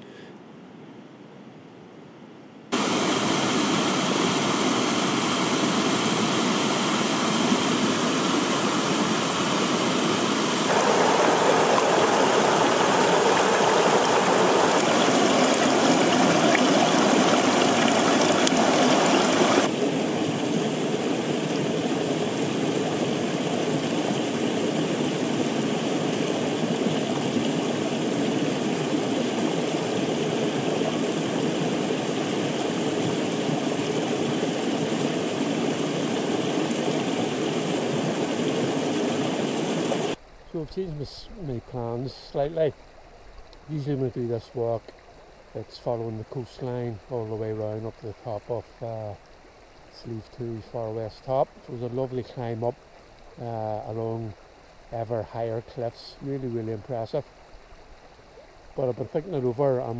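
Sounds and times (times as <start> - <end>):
mountain stream rushing over boulders: 2.7 - 59.9.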